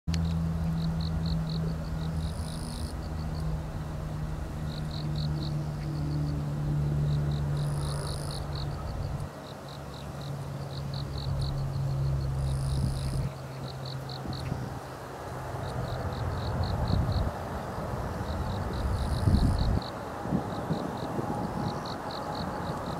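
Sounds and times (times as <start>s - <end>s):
insects chirping: 0.1s - 22.9s
steady low hum: 0.1s - 22.9s.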